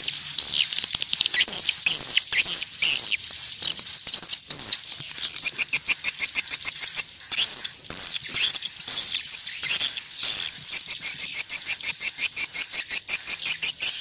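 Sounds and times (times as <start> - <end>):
swiftlets chirping and twittering: 0.0 - 14.0.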